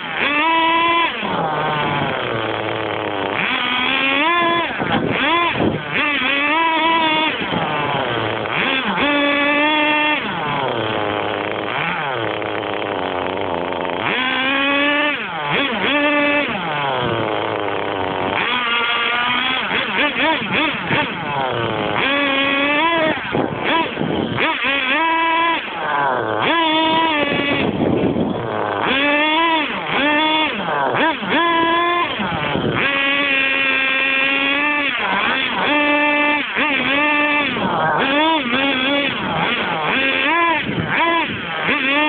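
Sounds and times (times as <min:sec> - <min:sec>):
rc car nitro engine revving: 0:00.0 - 0:42.0.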